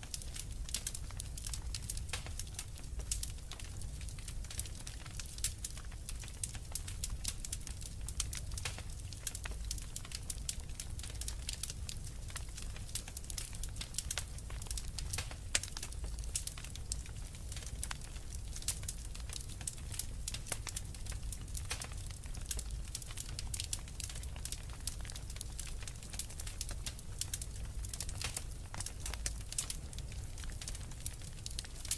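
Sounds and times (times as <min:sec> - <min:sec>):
low rumble of flames: 0:00.0 - 0:31.9
wood fire crackling and popping: 0:00.0 - 0:31.9.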